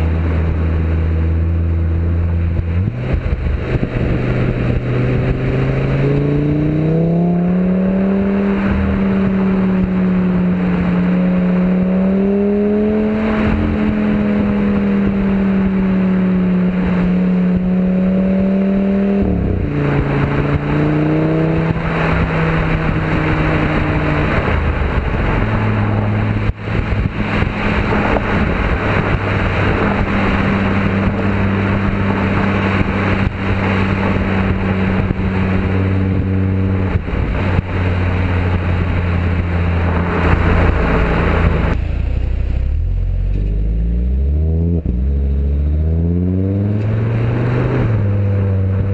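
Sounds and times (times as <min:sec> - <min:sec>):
car engine exhaust note: 0:00.0 - 0:48.9
road noise: 0:00.0 - 0:48.9.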